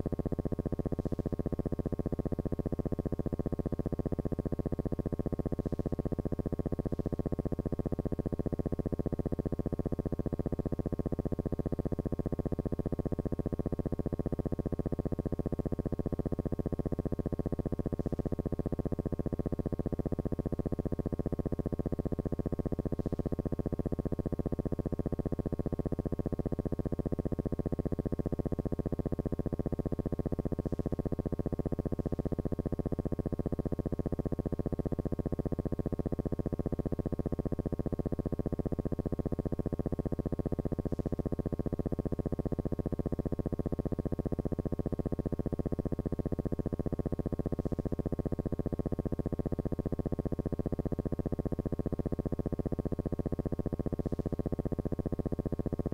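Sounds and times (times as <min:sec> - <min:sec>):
steady buzzing hum: 0:00.0 - 0:55.9.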